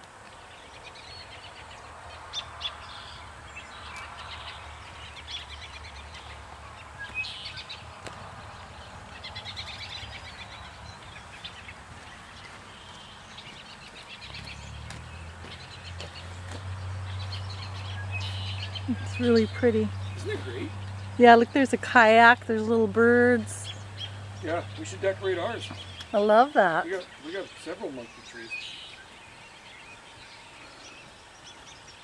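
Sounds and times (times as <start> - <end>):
small birds chirping: 0.0 - 32.0
low steady hum: 0.6 - 27.2.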